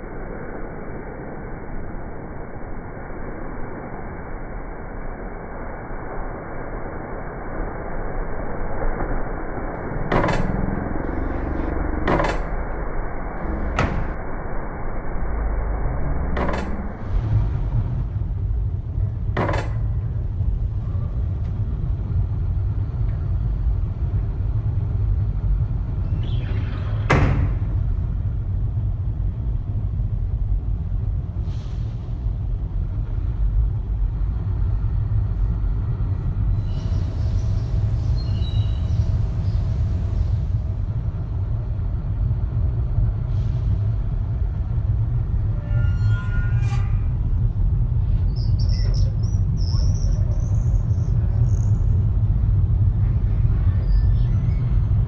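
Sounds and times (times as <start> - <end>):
low rumbling noise: 0.0 - 55.0.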